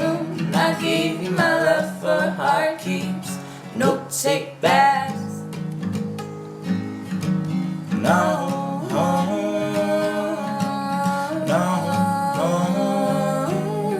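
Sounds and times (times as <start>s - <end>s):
person singing wordlessly: 0.0s - 5.4s, 8.0s - 13.9s
strummed acoustic guitar: 0.0s - 13.9s.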